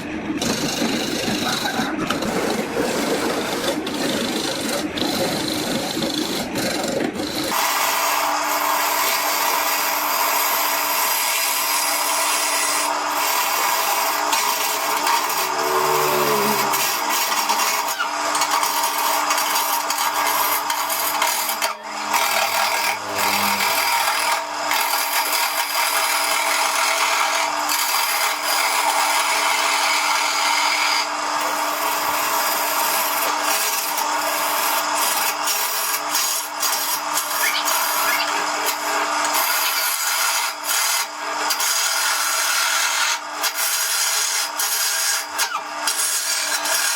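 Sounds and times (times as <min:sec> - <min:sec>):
tool rasping wood: 0:00.0 - 0:46.9.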